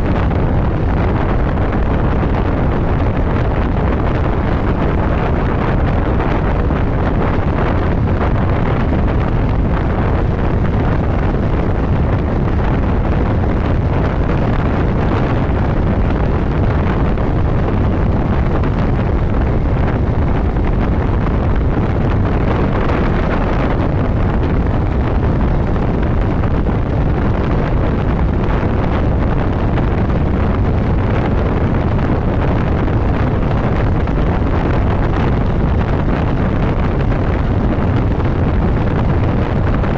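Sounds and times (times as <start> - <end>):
road noise: 0.0 - 39.9
wind rush over microphone: 0.0 - 39.9.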